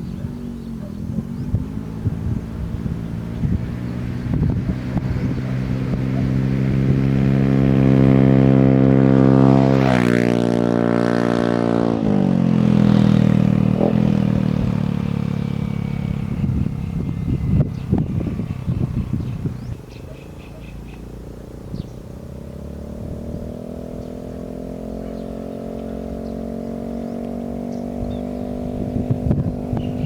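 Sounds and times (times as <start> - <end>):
scooter engine revving: 0.0 - 30.0.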